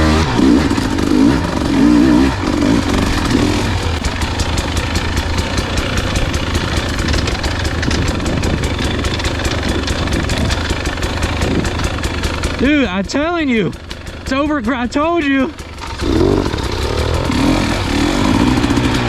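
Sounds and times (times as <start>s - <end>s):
dirt bike engine running: 0.0s - 19.0s
rapid light clicks and clatter: 0.4s - 19.0s.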